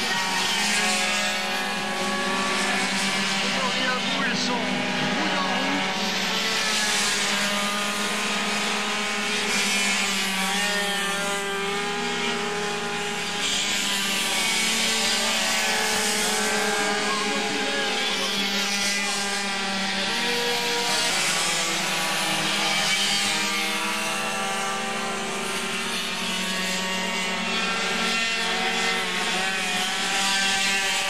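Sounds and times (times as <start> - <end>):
two-stroke moped engines racing: 0.0 - 31.0.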